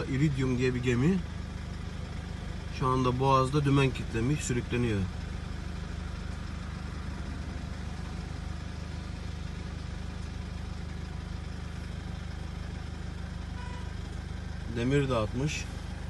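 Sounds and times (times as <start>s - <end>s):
car engine hum and road noise: 0.0s - 16.0s.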